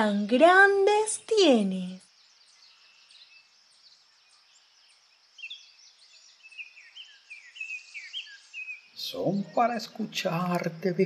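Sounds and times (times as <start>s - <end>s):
birds chirping: 0.0s - 11.0s
faint background hiss: 0.0s - 11.0s.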